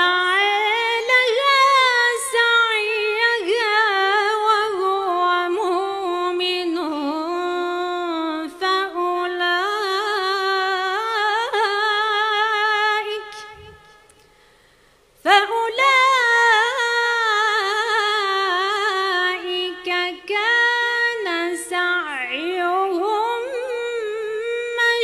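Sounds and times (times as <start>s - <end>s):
woman reciting melodically: 0.0s - 14.1s, 15.2s - 25.0s.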